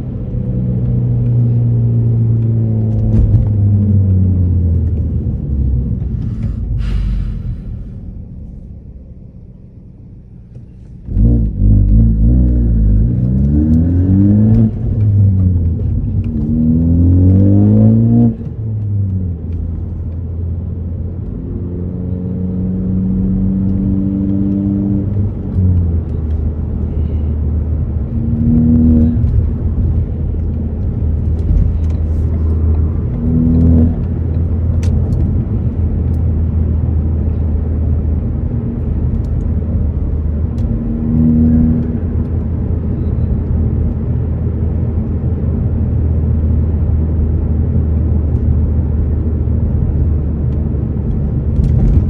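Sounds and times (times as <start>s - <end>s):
car engine and exhaust revving: 0.0s - 52.0s.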